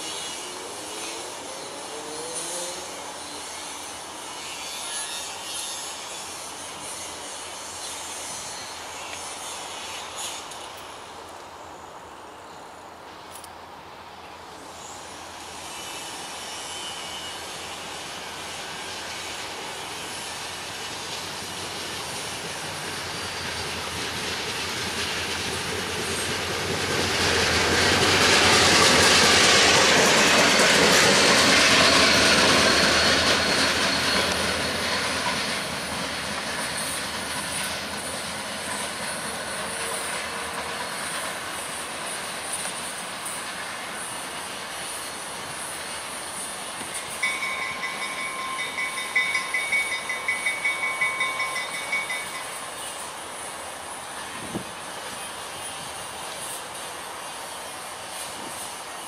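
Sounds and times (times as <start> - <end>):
train wheels on rails: 0.0 - 13.6, 14.5 - 59.0
diesel locomotive engine: 0.0 - 59.0.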